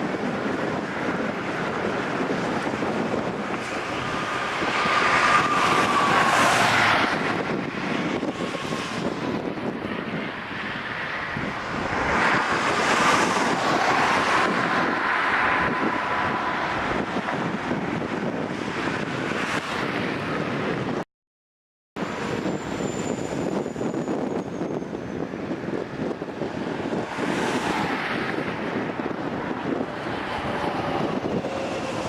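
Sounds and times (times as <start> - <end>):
wind buffeting microphone: 0.0 - 21.0, 22.0 - 32.0.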